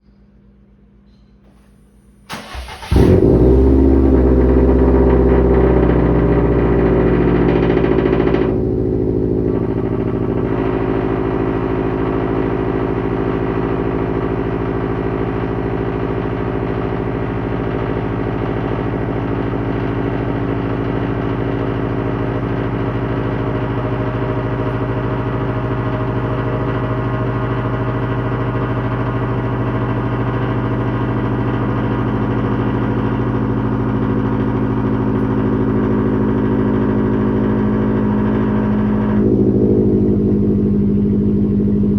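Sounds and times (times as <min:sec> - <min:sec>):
car engine idling: 0:01.1 - 0:41.9.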